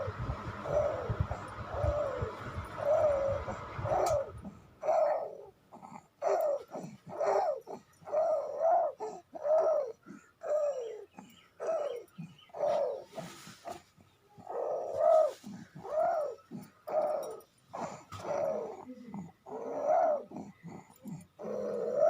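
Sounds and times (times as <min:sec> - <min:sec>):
baby cooing: 0:01.8 - 0:13.1, 0:14.4 - 0:22.0.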